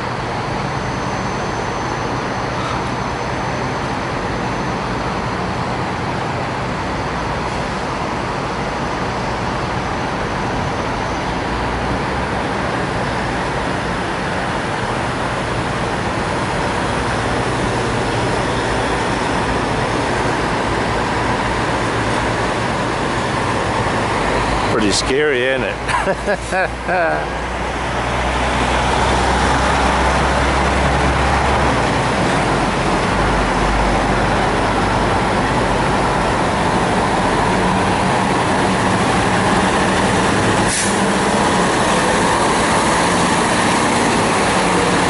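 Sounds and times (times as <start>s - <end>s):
diesel truck engines droning: 0.0s - 45.0s
tractor-trailer driving: 0.0s - 45.0s.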